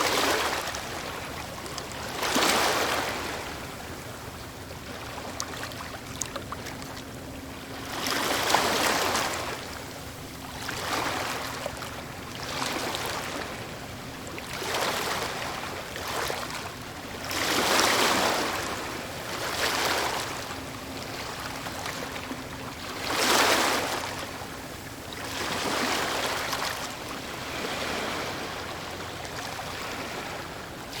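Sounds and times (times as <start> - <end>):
waves breaking on shore: 0.0 - 31.0.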